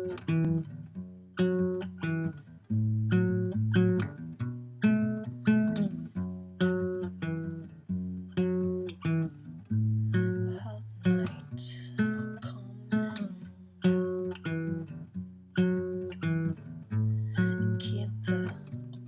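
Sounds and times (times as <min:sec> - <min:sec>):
fingerpicked classical guitar: 0:00.0 - 0:19.0.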